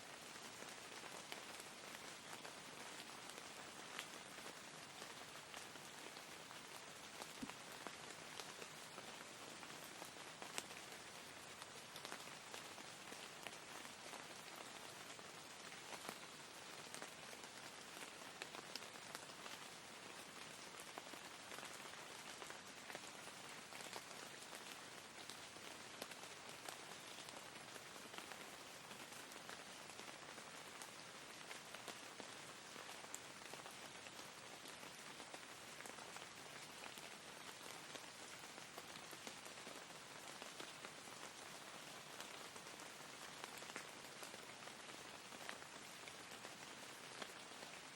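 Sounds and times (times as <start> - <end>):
faint rain falling: 0.0 - 47.9.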